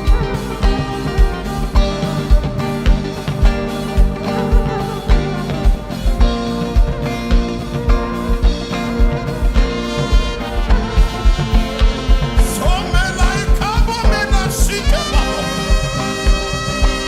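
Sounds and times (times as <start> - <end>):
bending melody line: 0.0 - 17.0
upbeat music with drums and horns: 0.0 - 17.0.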